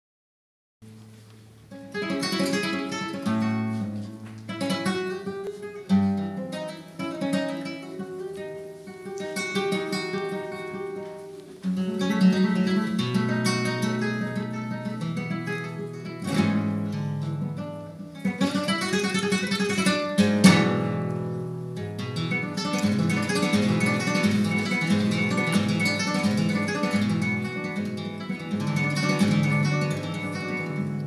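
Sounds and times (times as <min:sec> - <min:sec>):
flamenco guitar playing: 0:00.8 - 0:31.0.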